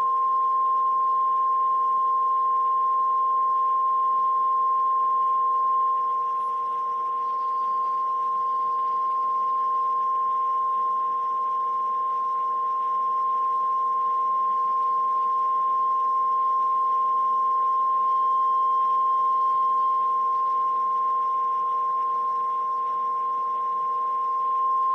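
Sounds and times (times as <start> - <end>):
electronic test tone: 0.0 - 24.9
lower second tone: 0.0 - 24.9.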